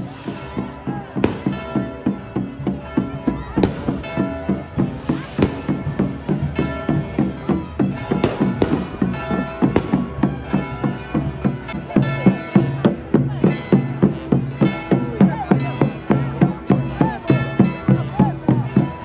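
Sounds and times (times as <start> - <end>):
festive band music: 0.0 - 19.0.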